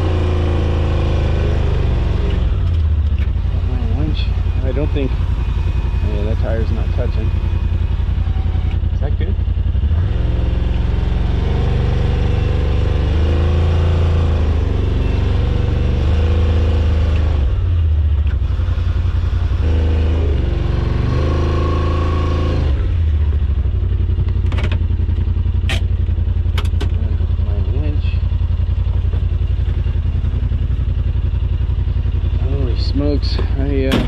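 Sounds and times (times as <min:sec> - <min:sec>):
utility vehicle engine revving: 0:00.0 - 0:34.0.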